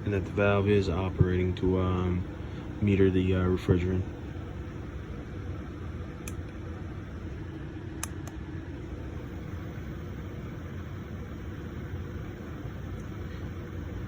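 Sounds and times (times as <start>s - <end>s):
air conditioner fan whirring: 0.0s - 14.0s.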